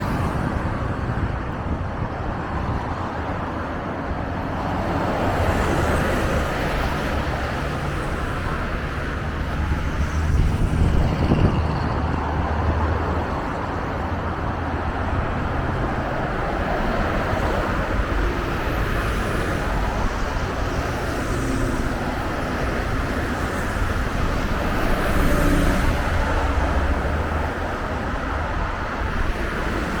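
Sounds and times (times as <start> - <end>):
bus engine rumble: 0.0 - 30.0
road traffic noise: 0.0 - 30.0.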